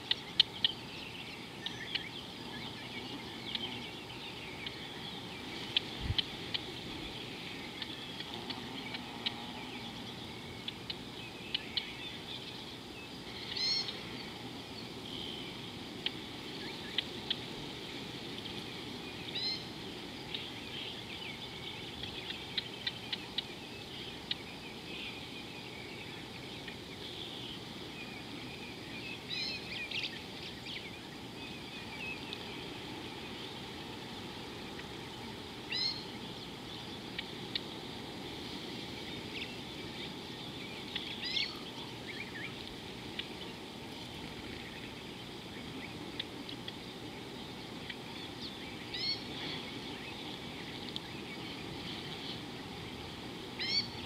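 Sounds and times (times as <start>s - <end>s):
outdoor ambience hiss: 0.0s - 54.0s.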